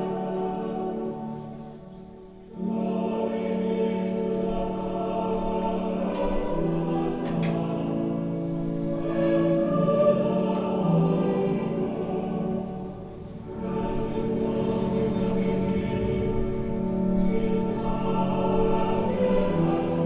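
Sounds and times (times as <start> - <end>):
group singing sacred chant: 0.0 - 20.0.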